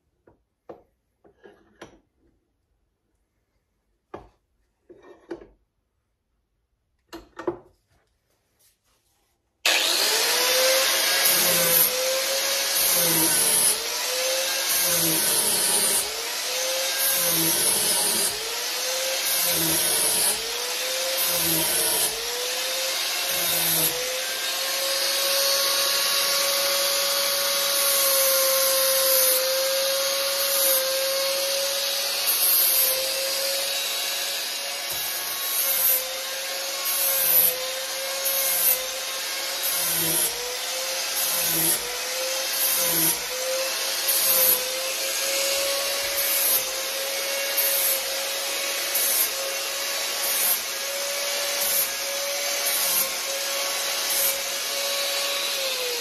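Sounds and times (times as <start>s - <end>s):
angle grinder on wood: 9.6s - 56.0s.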